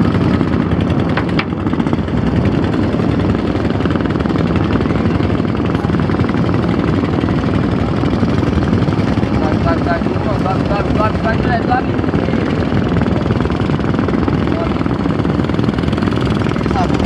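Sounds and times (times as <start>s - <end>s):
engine running with fast rattle: 0.0s - 17.0s.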